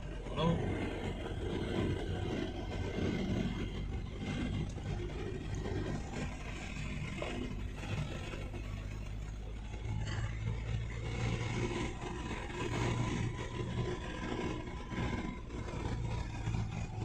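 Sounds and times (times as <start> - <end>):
road noise inside car: 0.0 - 17.0
vehicle engine hum: 0.0 - 17.0.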